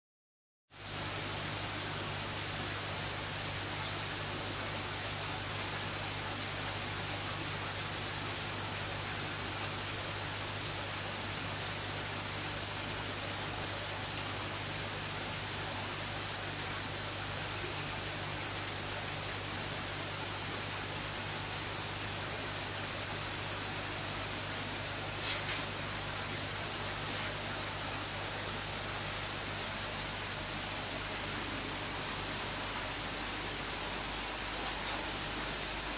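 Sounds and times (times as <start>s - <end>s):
hiss of moving water: 0.7s - 35.9s.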